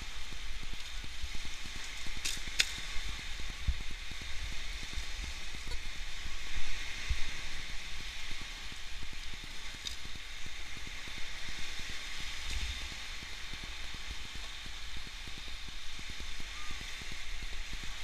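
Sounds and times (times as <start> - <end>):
sea surf washing on beach: 0.0 - 18.0
wind rumbling on microphone: 0.0 - 18.0.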